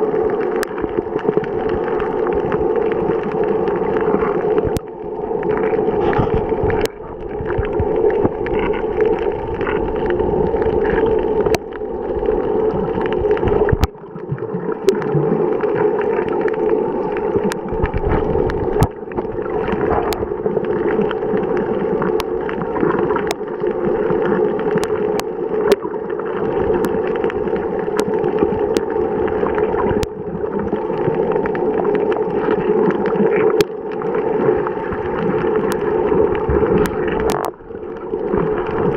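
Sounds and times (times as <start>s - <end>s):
muffled underwater rush: 0.0s - 38.9s
sharp underwater clicks: 0.3s - 38.9s.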